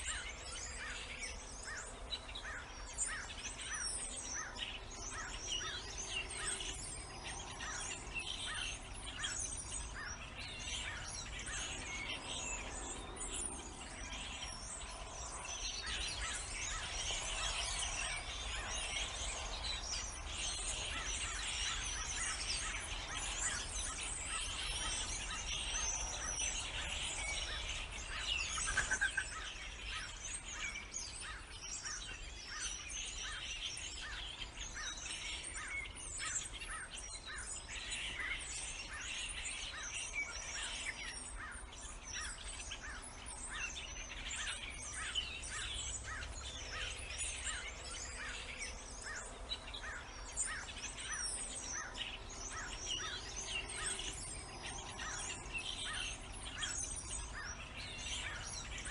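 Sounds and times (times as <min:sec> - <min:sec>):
small birds chirping chorus: 0:00.0 - 0:58.9.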